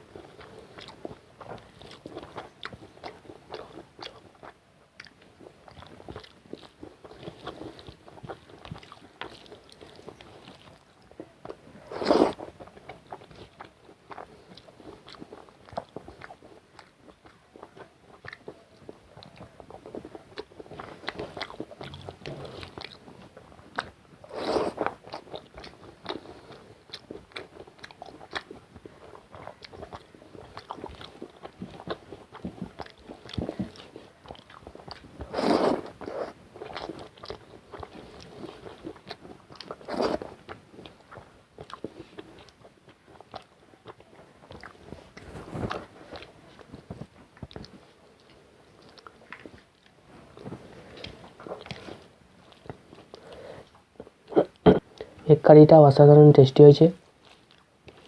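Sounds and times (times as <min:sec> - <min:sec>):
person chewing food: 0:00.0 - 0:55.3, 0:57.0 - 0:58.0.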